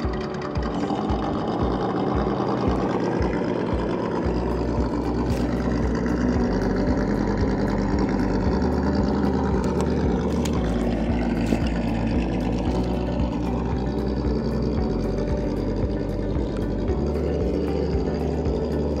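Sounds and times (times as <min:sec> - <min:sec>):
electric motor and drivetrain whirring: 0:00.0 - 0:19.0.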